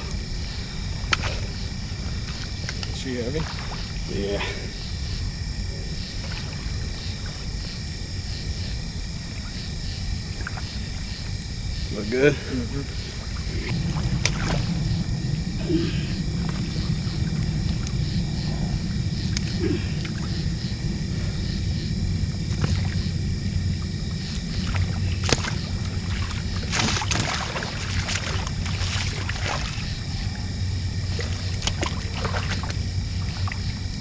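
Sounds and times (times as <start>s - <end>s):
fish splashing in shallow water: 0.0s - 5.3s, 5.9s - 11.8s, 12.8s - 34.0s
insects chirring: 0.0s - 34.0s
low engine drone: 0.0s - 34.0s.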